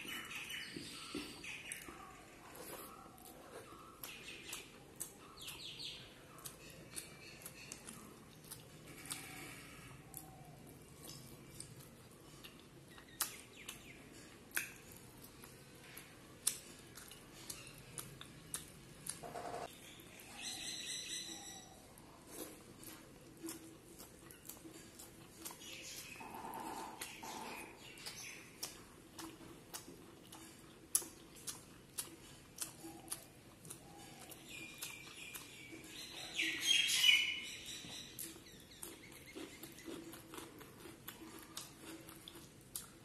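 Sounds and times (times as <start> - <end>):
wet chewing: 0.0 - 19.7, 21.3 - 43.0.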